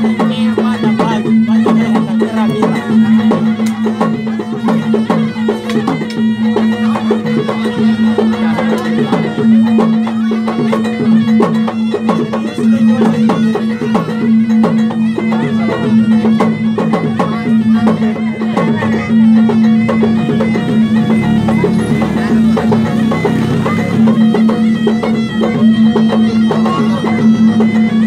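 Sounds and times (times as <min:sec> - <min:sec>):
reedy wind instrument: 0:00.0 - 0:28.0.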